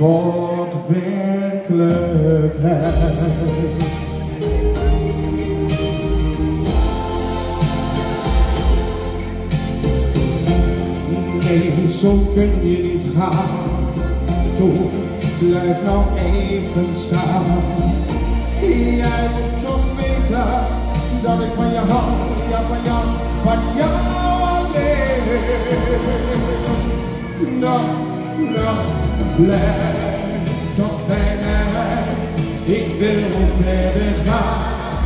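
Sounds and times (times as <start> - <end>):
live band with singing: 0.0 - 35.0.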